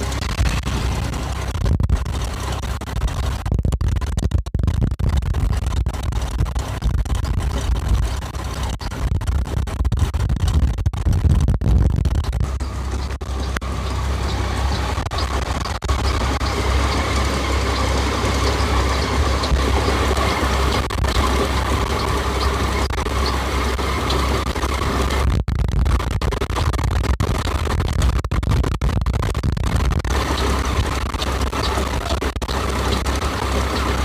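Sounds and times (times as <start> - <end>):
combine harvester engine rumble: 0.0 - 3.5, 5.3 - 9.4, 11.9 - 27.7, 29.6 - 34.0
mechanical whine: 0.0 - 34.0.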